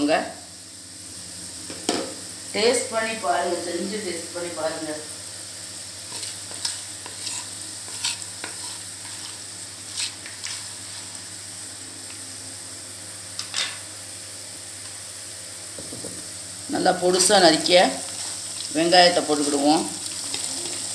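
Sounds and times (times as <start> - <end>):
spices sizzling in hot oil: 0.0 - 20.9.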